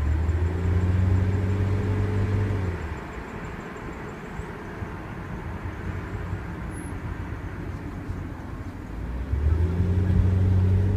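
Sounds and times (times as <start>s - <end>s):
car engine pulling: 0.0s - 10.9s
road and tyre rumble: 0.0s - 10.9s.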